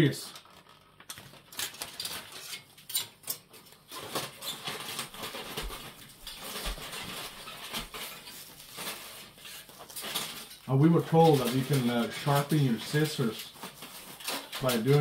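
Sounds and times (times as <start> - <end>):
aluminium foil crinkling: 0.1 - 15.0
scissors snipping foil: 1.1 - 15.0.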